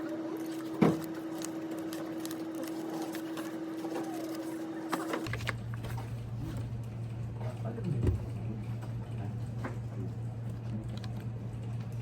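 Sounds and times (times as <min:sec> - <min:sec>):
office hum: 0:00.0 - 0:12.0.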